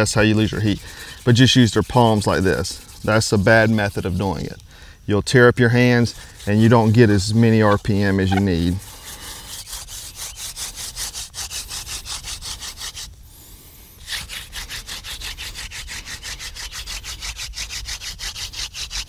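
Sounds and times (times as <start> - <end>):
wooden drill rubbing on fireboard: 0.0 - 4.6, 5.6 - 13.2, 14.0 - 19.0.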